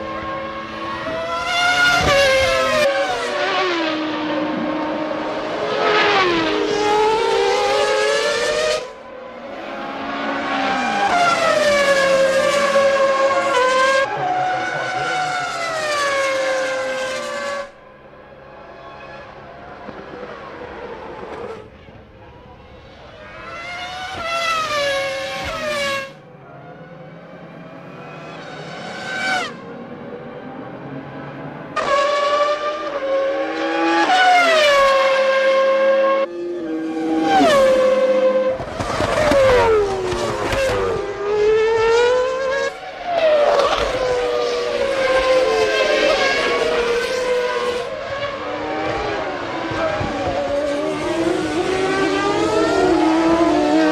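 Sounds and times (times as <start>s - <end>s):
racing car engines passing: 0.0s - 53.9s.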